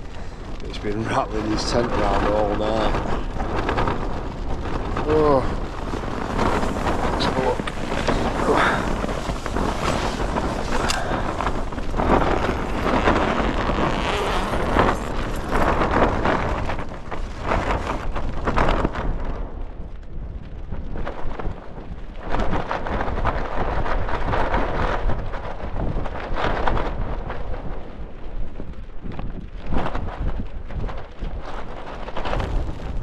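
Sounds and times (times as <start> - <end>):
tent fabric rattling: 0.0 - 19.6, 20.9 - 33.0
strong gusting wind on microphone: 0.0 - 33.0.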